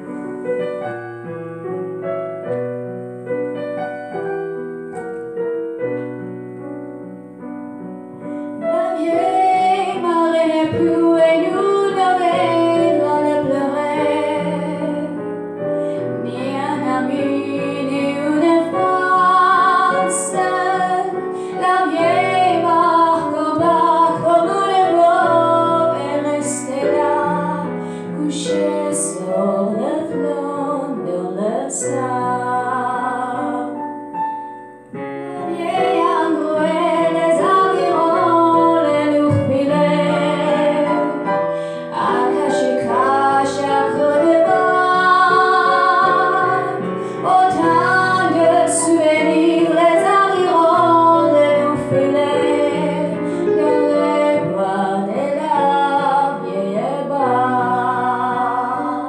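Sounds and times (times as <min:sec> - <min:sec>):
digital piano: 0:00.0 - 0:59.0
woman singing with vibrato: 0:08.7 - 0:15.1, 0:16.2 - 0:33.8, 0:35.3 - 0:59.0.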